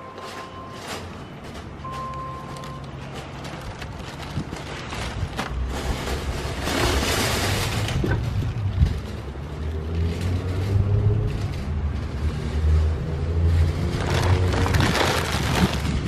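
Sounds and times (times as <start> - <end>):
plastic bags rustling: 0.0 - 16.0.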